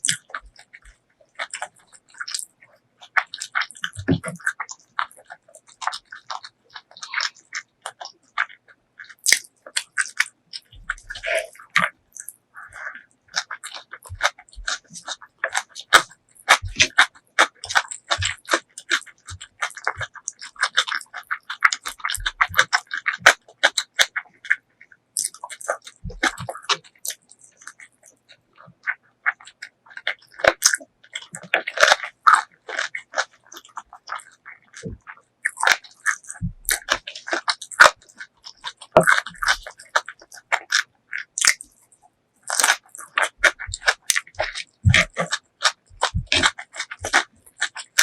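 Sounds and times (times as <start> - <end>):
wet chewing and crunching: 0.0 - 48.0.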